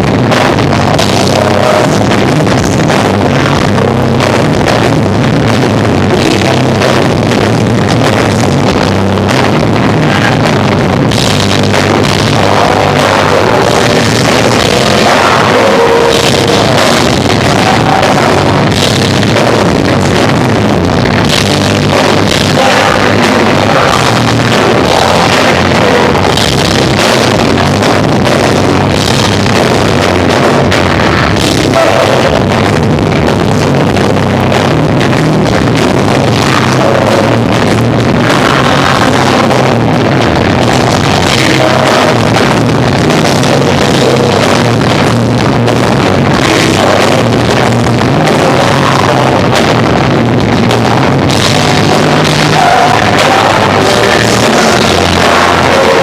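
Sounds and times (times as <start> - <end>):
bass guitar: 0.0 - 56.0
drums: 0.0 - 56.0
electric guitar: 0.0 - 56.0.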